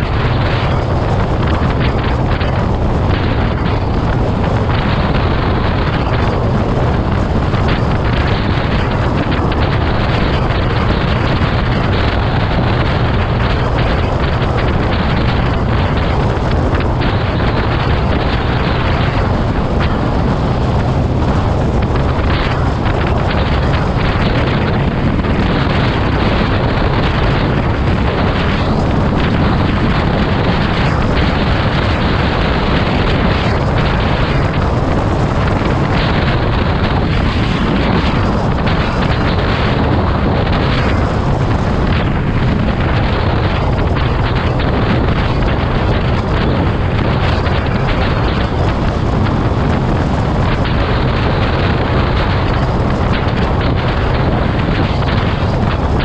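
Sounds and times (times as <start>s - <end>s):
moving vehicle running noise: 0.0s - 56.0s
wind rush on microphone: 0.0s - 56.0s.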